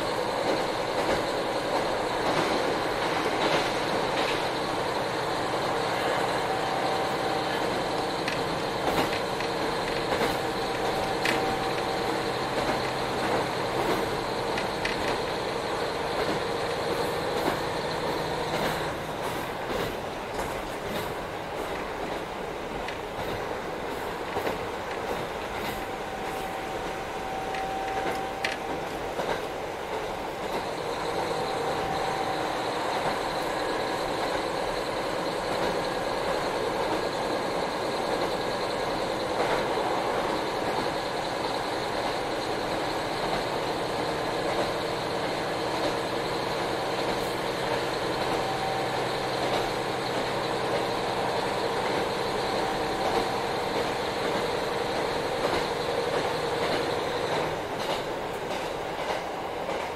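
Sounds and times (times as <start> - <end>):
train wheels and engine rumbling: 0.0 - 59.9.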